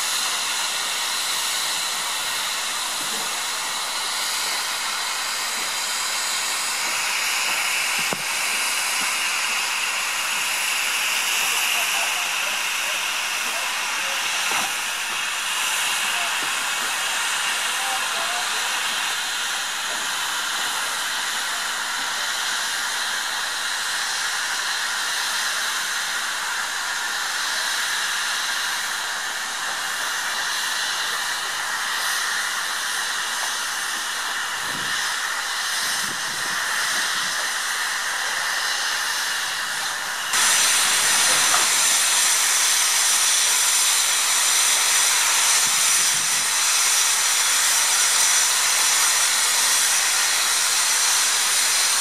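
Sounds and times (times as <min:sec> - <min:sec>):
loud rush of steam: 0:00.0 - 0:52.0
steam hissing from locomotive: 0:00.0 - 0:52.0.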